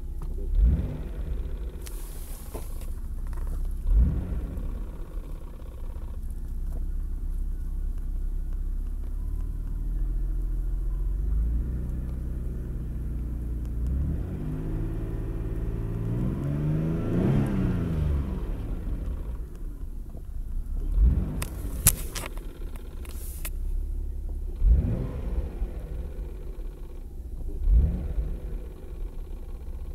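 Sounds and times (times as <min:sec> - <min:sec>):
car engine revving: 0:00.0 - 0:07.9, 0:08.8 - 0:29.9.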